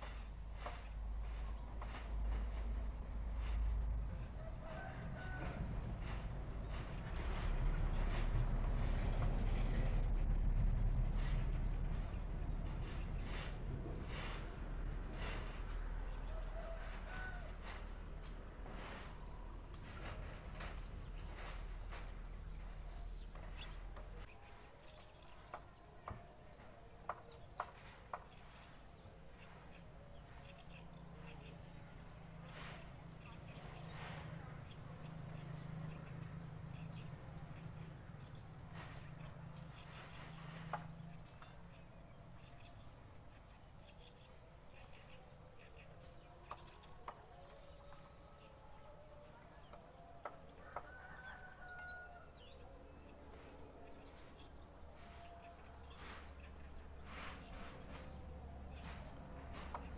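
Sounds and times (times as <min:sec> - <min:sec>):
faint chicken calls: 0:00.0 - 0:10.5, 0:11.2 - 0:44.2, 0:46.0 - 0:59.9
crickets chirping: 0:00.0 - 0:59.9.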